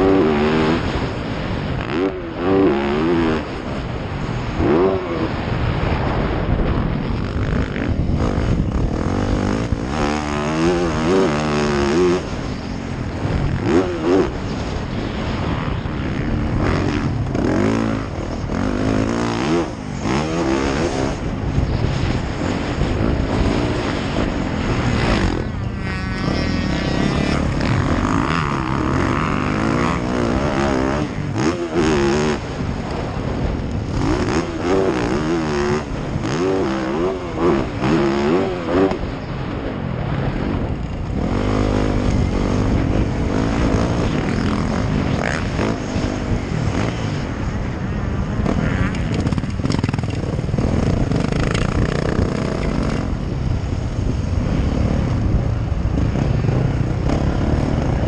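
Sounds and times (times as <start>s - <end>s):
dirt bike engine revving: 0.0s - 6.5s, 7.1s - 58.0s.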